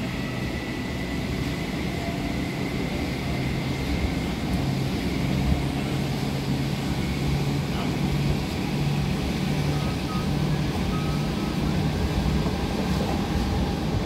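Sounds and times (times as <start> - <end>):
train carriage running rumble: 0.0 - 14.0.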